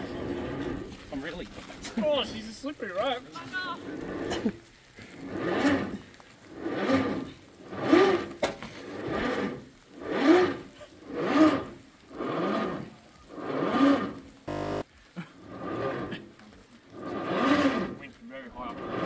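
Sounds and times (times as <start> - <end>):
rope dragged over rock: 0.0 - 19.0.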